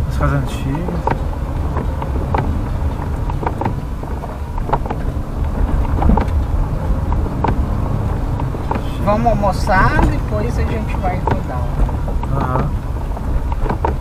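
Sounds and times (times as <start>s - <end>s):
car engine and road rumble: 0.0s - 14.0s
short ticks and knocks: 0.6s - 9.0s, 9.8s - 14.0s.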